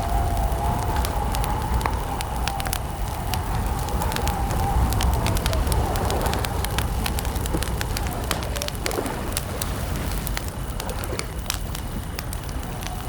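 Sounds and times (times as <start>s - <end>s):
campfire crackling and popping: 0.0s - 13.0s
crickets chirping: 0.0s - 13.0s
low rumble: 0.0s - 13.0s.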